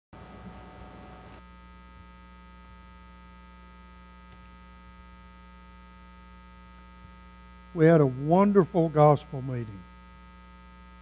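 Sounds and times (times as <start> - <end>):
electrical mains hum: 0.2 - 11.0.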